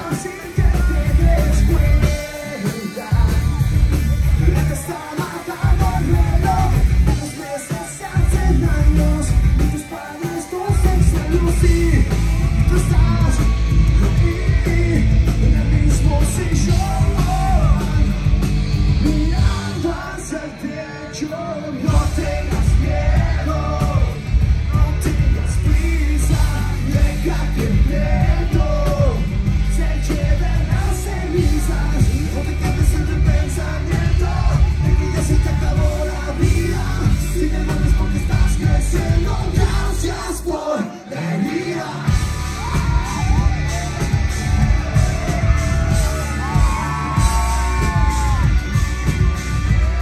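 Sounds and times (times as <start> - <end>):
bass and drums: 0.0 - 50.0
electric guitars: 0.0 - 50.0
man singing: 0.0 - 50.0.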